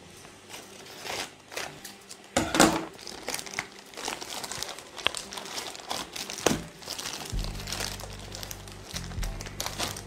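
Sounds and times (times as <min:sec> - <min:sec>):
plastic packaging crinkling: 0:00.3 - 0:10.0.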